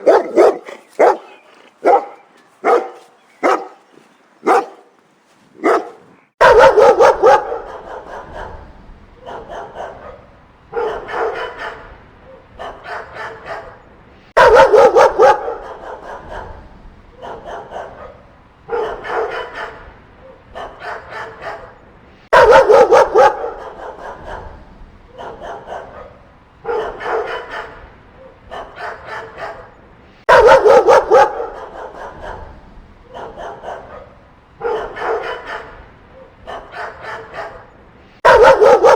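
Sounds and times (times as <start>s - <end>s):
dog barking: 0.0s - 38.9s.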